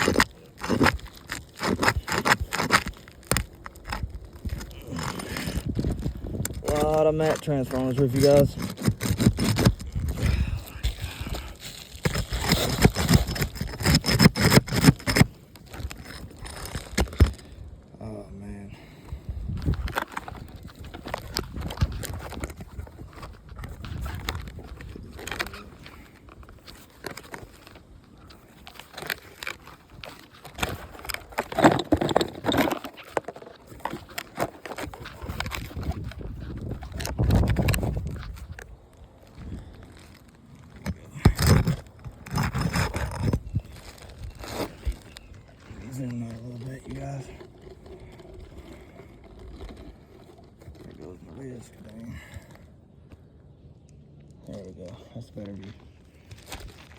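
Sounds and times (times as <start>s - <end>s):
roof shingles scraping and cracking: 0.0s - 17.8s, 18.6s - 56.9s.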